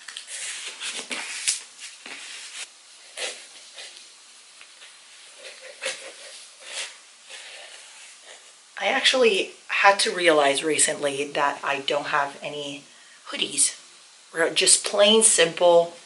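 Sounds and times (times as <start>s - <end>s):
fabric hiss: 0.0s - 16.0s.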